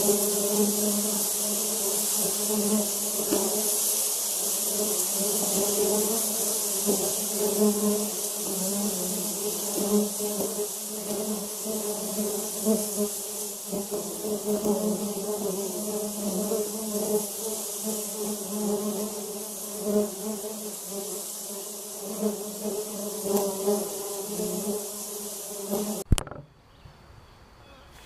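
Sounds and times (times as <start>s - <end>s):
honey bees buzzing: 0.0s - 26.1s.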